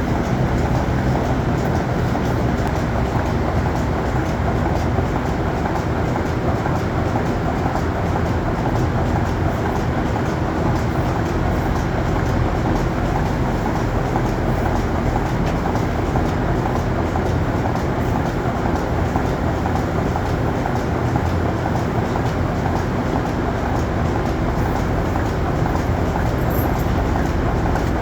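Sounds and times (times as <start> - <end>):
milking machine running: 0.0 - 28.0.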